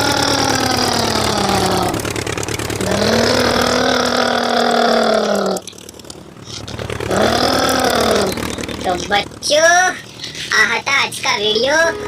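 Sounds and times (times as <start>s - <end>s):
imitation engine drone: 0.0s - 12.0s.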